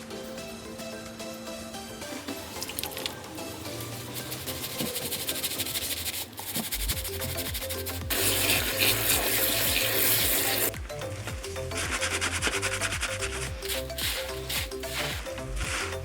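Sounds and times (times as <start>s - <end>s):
music with beat and bassline: 0.0s - 16.0s.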